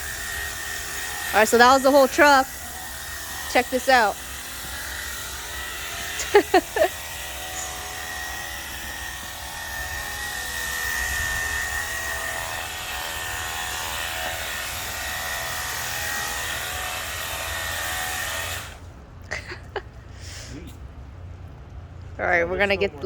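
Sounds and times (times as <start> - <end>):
pressure washer pump whine: 0.0 - 19.0.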